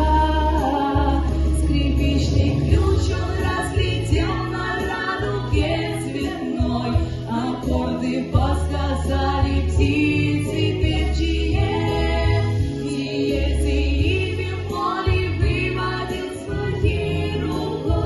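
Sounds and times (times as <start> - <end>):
instrumental backing with bass: 0.0 - 18.0
voices singing: 0.0 - 18.0.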